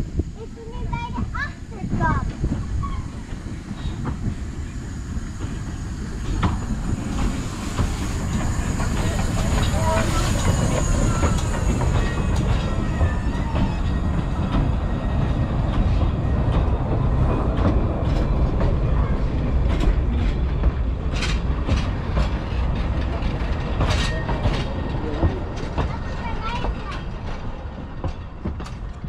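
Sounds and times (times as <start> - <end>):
steam train rumbling past: 0.0 - 29.0
train wheels clacking: 0.0 - 29.0.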